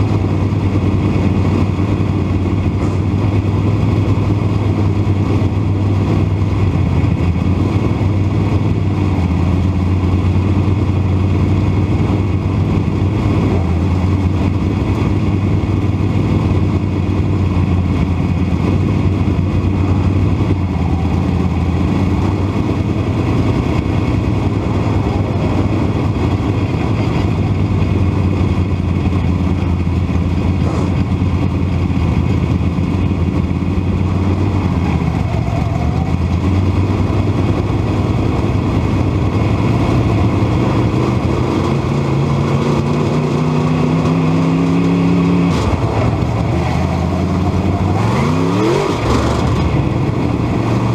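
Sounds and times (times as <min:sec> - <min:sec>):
race car engine running loud: 0:00.0 - 0:50.9.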